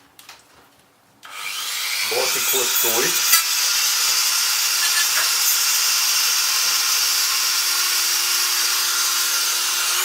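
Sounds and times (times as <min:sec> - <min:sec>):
electric drill boring plastic: 0:01.2 - 0:10.0.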